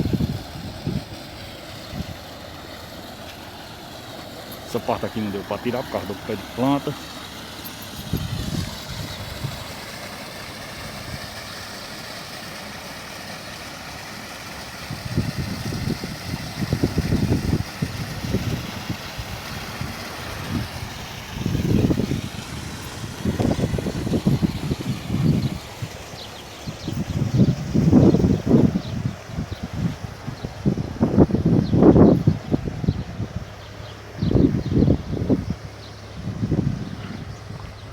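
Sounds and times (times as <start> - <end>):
wind buffeting microphone: 0.0 - 3.3, 4.0 - 11.7, 14.8 - 37.9
diesel engine idling: 0.0 - 37.9.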